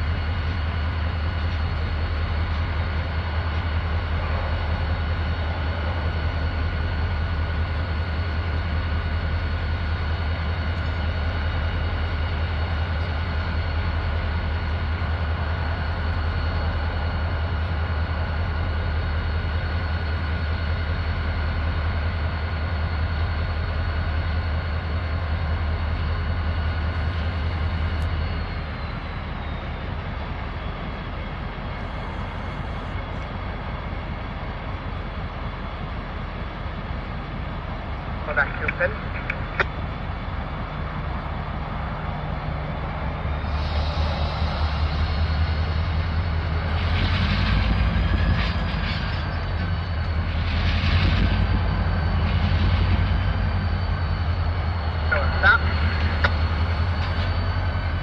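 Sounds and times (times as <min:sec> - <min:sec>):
diesel locomotive engine drone: 0:00.0 - 0:58.0
locomotive high whine: 0:00.0 - 0:58.0
train wheels on rails: 0:00.0 - 0:58.0.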